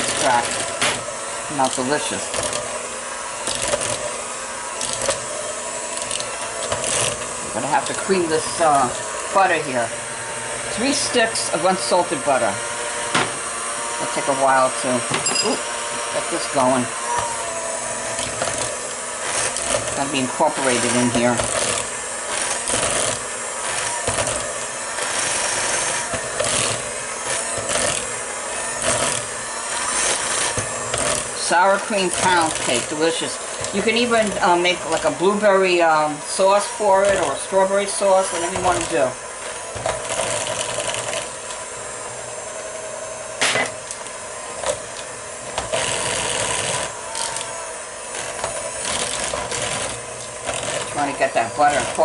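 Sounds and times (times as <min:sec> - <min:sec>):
beaters scraping bowl: 0:00.0 - 0:52.0
electric hand mixer running: 0:00.0 - 0:52.0.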